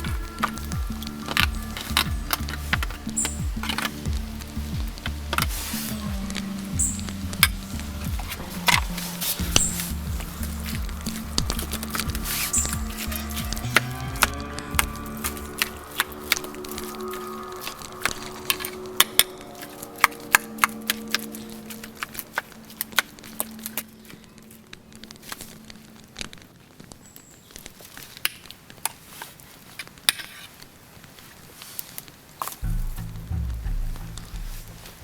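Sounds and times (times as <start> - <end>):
music: 0.0 - 26.2, 32.6 - 35.0
wood fire crackling: 0.0 - 35.0.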